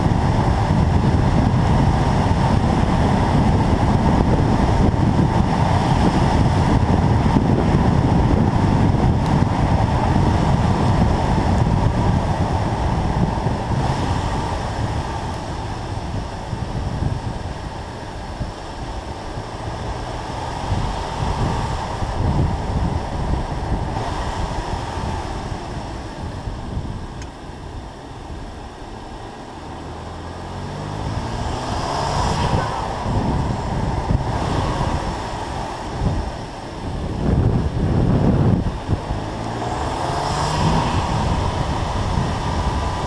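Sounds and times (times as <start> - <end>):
car engine running: 0.0 - 43.0
road noise: 0.0 - 43.0
wind buffeting microphone: 0.0 - 43.0.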